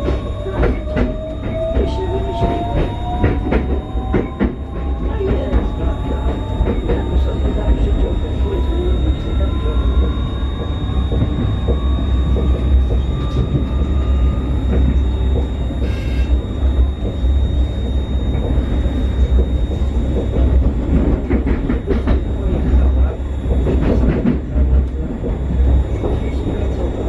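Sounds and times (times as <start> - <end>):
train running gear rumble: 0.0 - 27.0.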